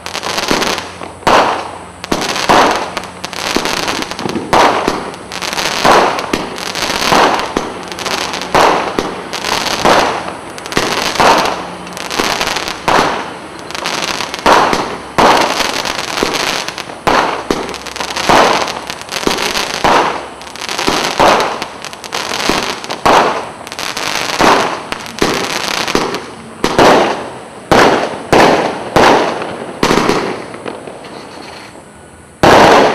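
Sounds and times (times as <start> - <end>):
firework cake shots: 0.0 - 31.5, 32.4 - 32.9
crackling firework stars: 0.0 - 32.9.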